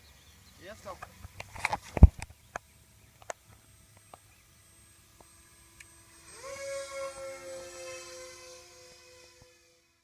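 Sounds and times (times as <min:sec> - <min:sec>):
electric motor whine: 0:00.0 - 0:10.0
faint steady hum: 0:00.0 - 0:10.0.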